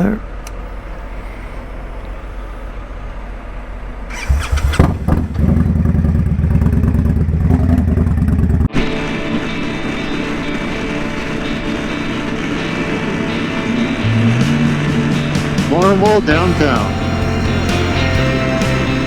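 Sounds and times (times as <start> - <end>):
motorcycle engine starting and idling: 0.0 - 19.0.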